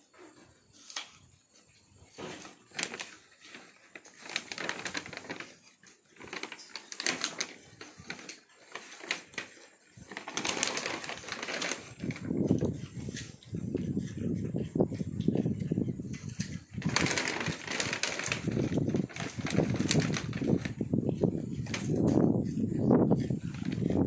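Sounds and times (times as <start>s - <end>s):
apes eating and moving: 0.0s - 24.0s.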